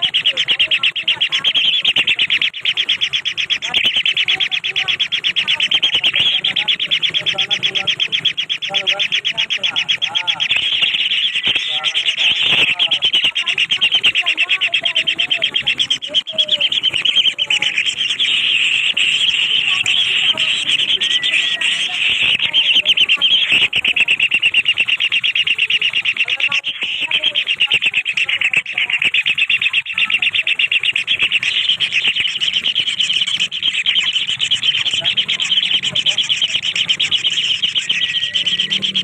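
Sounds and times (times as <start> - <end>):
kingfisher chicks chirping: 0.0 - 39.0
low wavering bird call: 0.0 - 39.0
young birds begging calls: 0.0 - 39.0.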